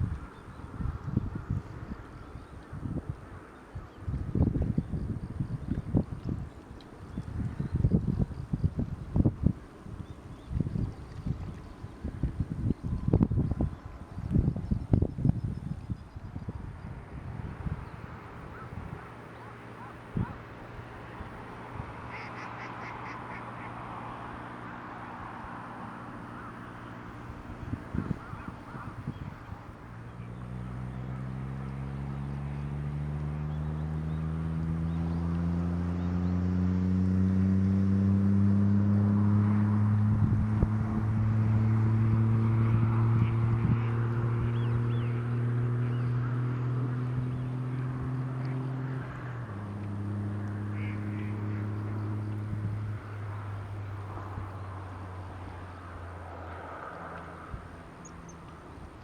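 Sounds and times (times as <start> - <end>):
outdoor background noise with hum: 0.0 - 59.0.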